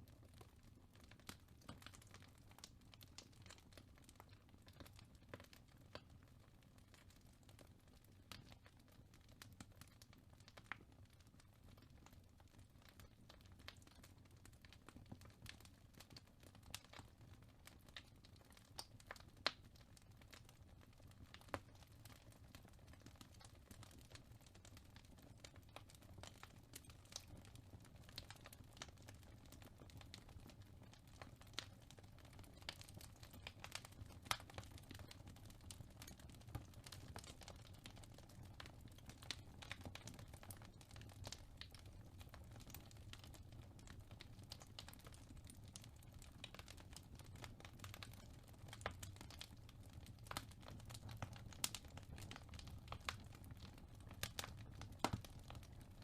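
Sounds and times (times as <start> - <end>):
wood fire crackling: 0.2 - 56.0.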